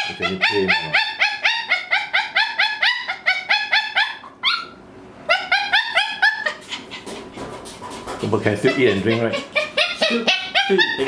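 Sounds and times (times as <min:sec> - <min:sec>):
dog yelping: 0:00.0 - 0:11.0.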